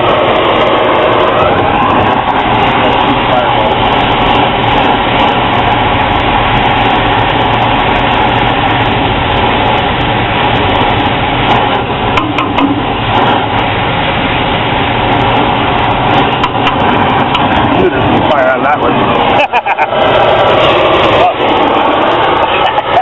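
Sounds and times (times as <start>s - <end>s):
low mechanical hum: 0.0s - 23.0s
torch flame hissing: 0.0s - 23.0s.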